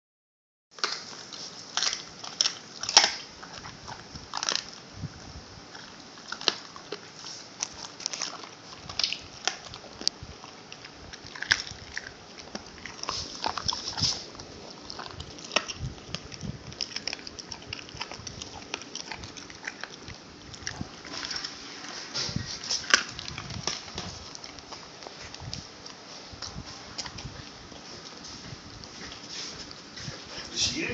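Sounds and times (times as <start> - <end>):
dog chewing bone: 0.8 - 30.5.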